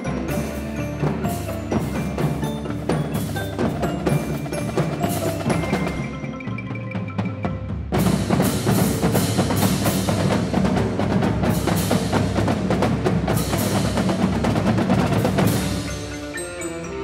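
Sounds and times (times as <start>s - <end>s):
percussion-heavy music: 0.0s - 17.0s.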